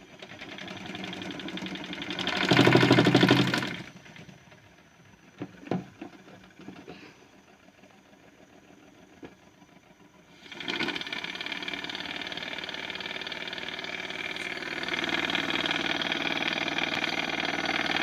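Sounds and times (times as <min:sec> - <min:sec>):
washing machine motor running: 0:00.0 - 0:05.0, 0:07.5 - 0:18.0.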